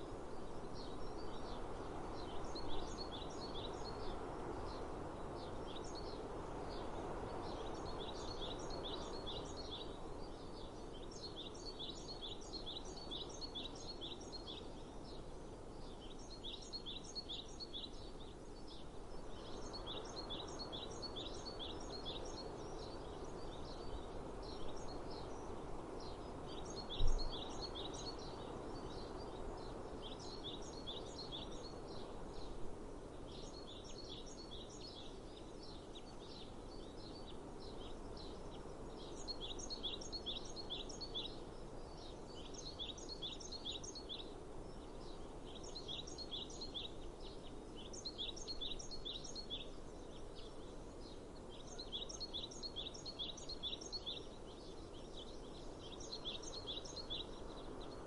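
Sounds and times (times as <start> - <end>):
low outdoor background noise: 0.0 - 58.0
songbird chirping: 0.0 - 58.0.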